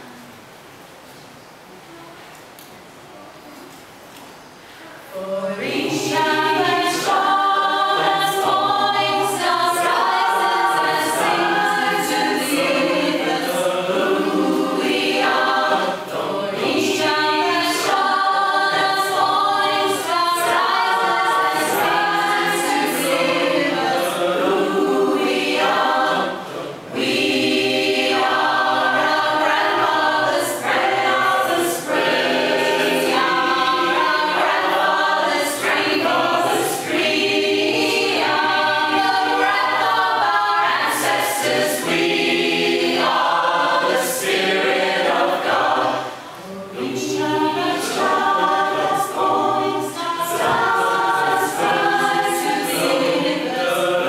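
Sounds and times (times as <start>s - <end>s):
mixed choir singing in harmony: 5.1s - 54.0s.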